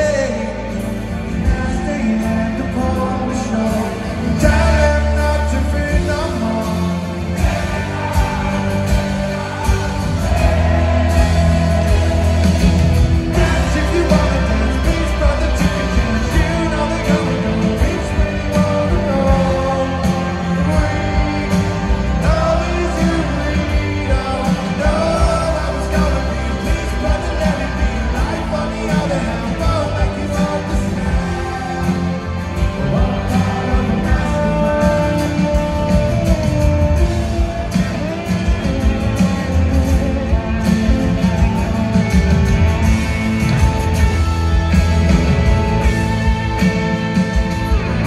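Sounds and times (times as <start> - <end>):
man singing: 0.0 - 42.3
guitar: 0.0 - 48.0
live rock band playing: 0.0 - 48.0
steady drum beat: 0.0 - 48.0.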